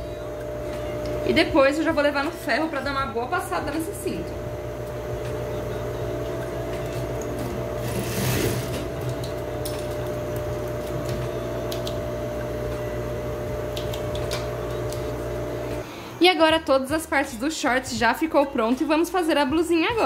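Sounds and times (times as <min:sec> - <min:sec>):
sewing machine motor hum: 0:00.0 - 0:16.2.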